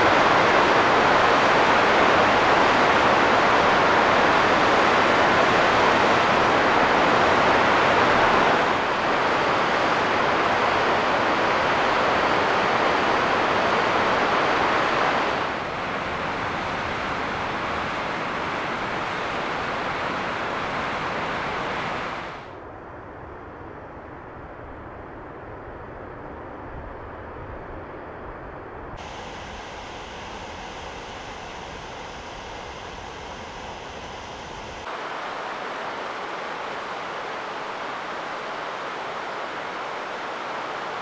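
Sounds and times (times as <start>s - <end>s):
whitewater river rushing: 0.0s - 22.5s, 29.0s - 41.0s.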